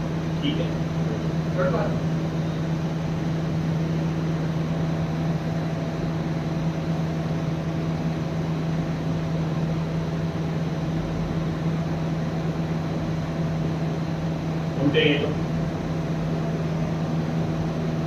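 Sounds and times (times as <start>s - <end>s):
steady machine hum with hiss: 0.0s - 18.0s.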